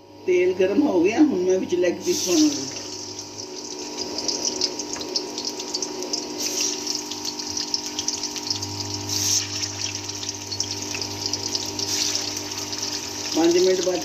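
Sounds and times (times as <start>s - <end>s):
chicken sizzling in hot oil: 2.0s - 14.0s.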